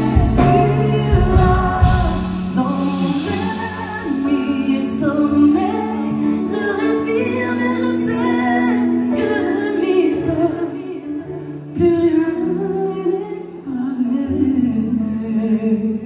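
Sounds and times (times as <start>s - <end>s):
pop backing music: 0.0s - 16.0s
woman singing into a microphone: 0.0s - 16.0s.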